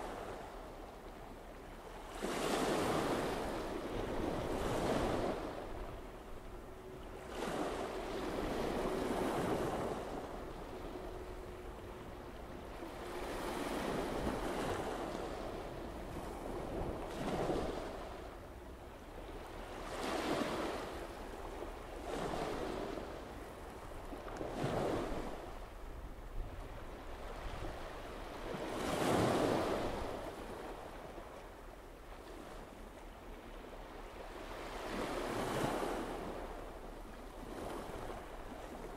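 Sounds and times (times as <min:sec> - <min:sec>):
sea waves: 0:00.0 - 0:38.9
wind: 0:00.0 - 0:38.9.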